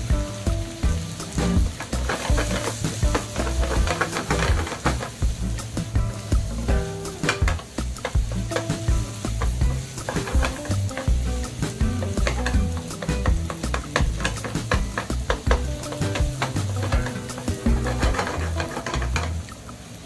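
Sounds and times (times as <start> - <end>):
background music: 0.0 - 19.5
rice sizzling: 0.0 - 20.0
spatula scraping frying pan: 1.0 - 5.7, 6.3 - 19.5.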